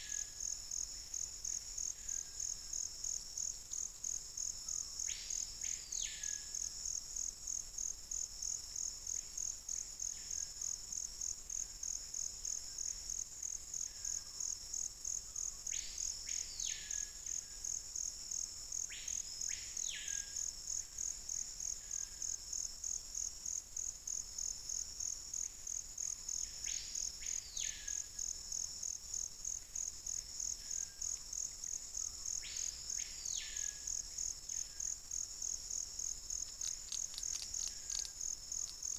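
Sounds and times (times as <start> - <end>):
pulsing insect chorus: 0.0 - 38.9.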